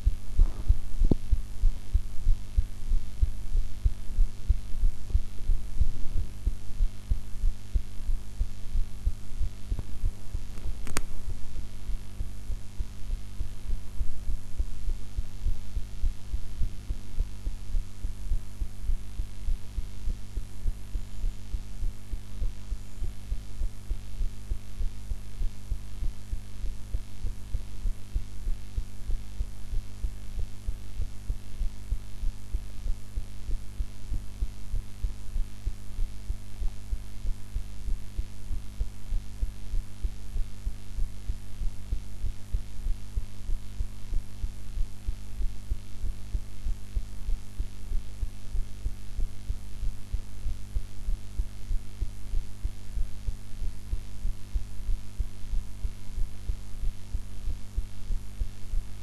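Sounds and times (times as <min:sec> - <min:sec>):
heartbeat thuds: 0:00.0 - 0:59.0
steady hum: 0:00.0 - 0:59.0.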